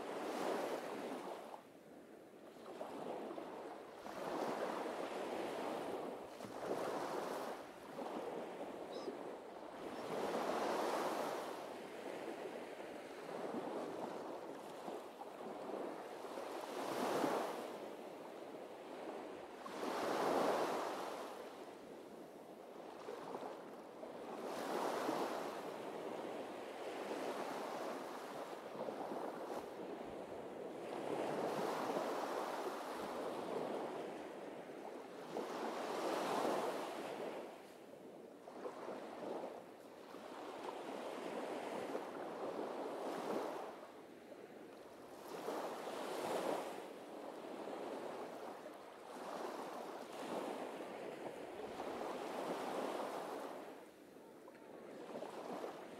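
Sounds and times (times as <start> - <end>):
small waves breaking on beach: 0.0 - 55.9.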